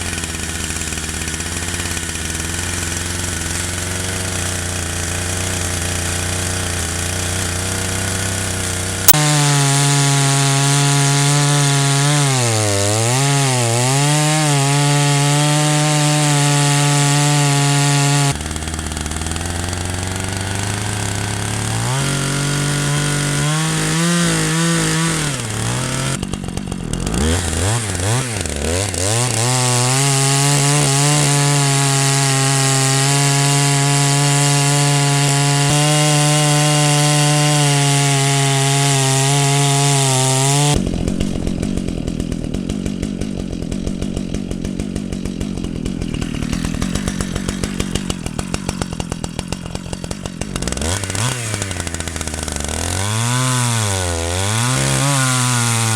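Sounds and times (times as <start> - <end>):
chainsaw revving: 0.0 - 55.9.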